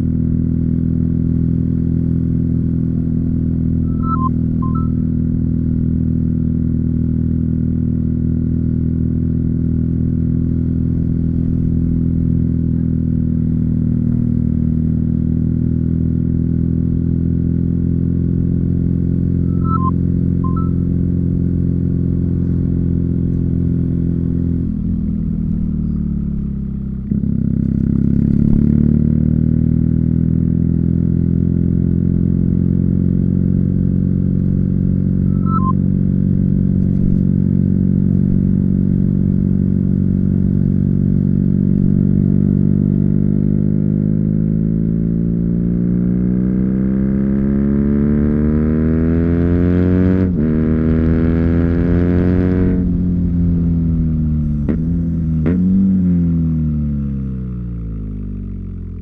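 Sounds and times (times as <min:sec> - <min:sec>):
motorcycle engine revving: 0:10.4 - 0:59.0.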